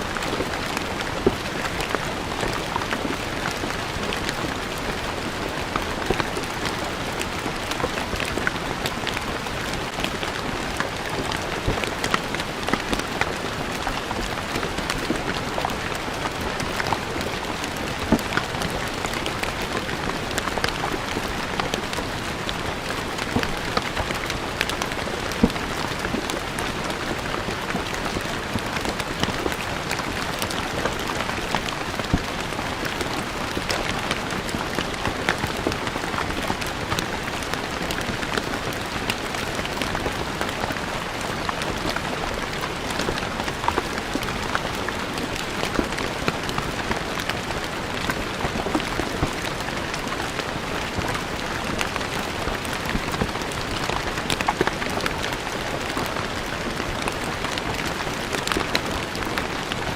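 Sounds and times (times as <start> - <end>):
rain on stone: 0.0 - 59.9.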